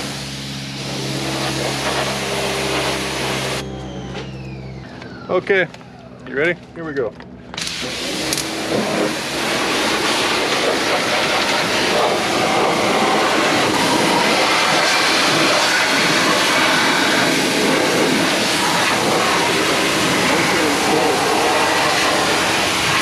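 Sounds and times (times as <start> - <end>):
pressure washer spraying water: 0.0 - 3.6, 7.6 - 23.0.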